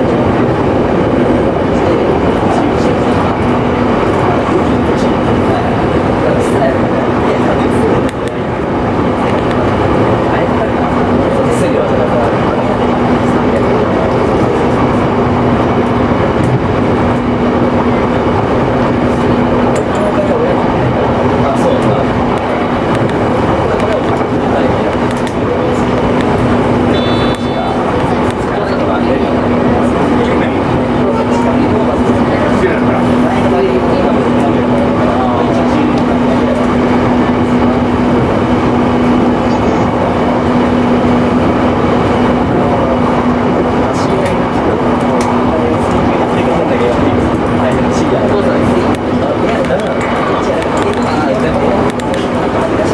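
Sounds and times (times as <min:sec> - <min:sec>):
even hum: 0:00.0 - 0:52.9
train wheels rumbling on rail: 0:00.0 - 0:52.9.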